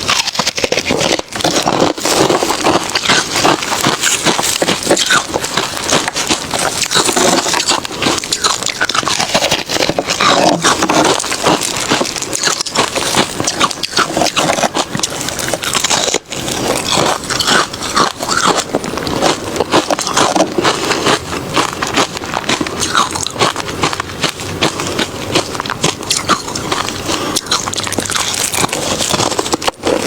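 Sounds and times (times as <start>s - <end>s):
crunching ice: 0.0s - 30.0s.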